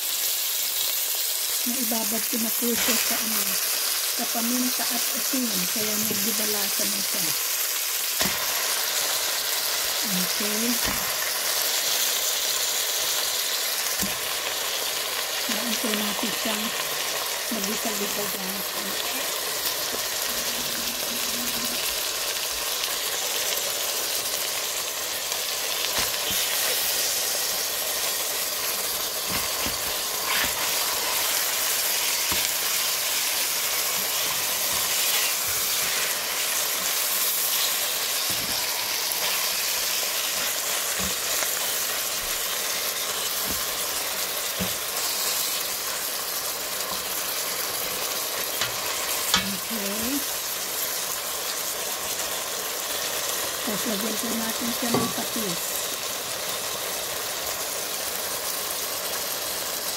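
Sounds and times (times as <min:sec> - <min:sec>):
food sizzling in a pot: 0:00.0 - 0:59.9.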